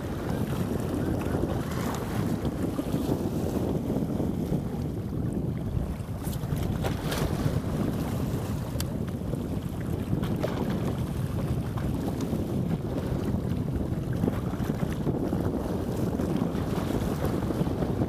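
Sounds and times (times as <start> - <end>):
small sea waves: 0.0 - 18.0
wind buffeting microphone: 0.0 - 18.0.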